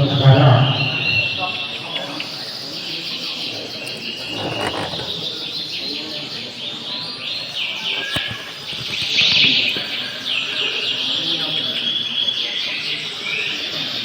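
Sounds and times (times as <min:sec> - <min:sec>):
canaries singing trills: 0:00.1 - 0:14.0.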